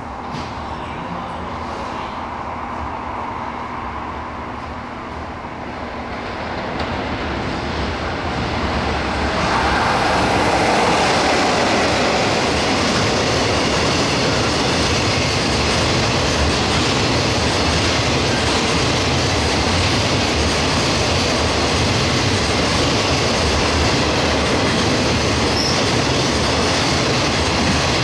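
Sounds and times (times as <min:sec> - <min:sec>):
freight train passing: 0:00.0 - 0:28.0.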